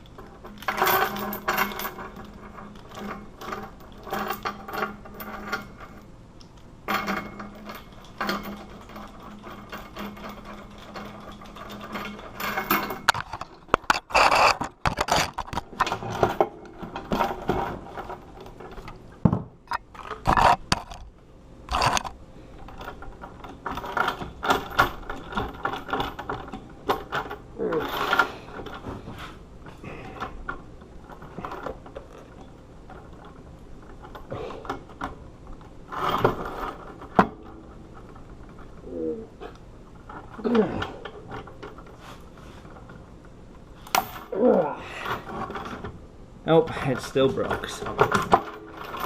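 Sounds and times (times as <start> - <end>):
metal clicking creaking and scraping: 0.0 - 49.0.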